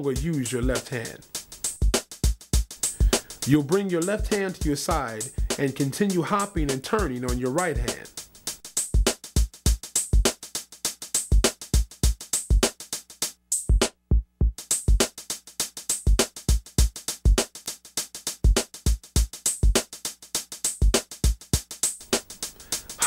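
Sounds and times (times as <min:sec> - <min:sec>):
electronic beat music: 0:00.0 - 0:10.4, 0:14.5 - 0:23.0.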